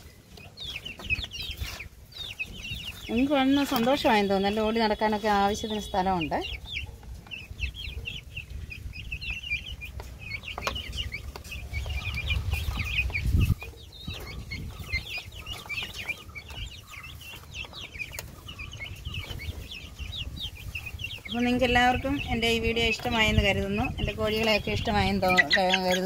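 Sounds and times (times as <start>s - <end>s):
chicks peeping and chirping: 0.0s - 26.0s.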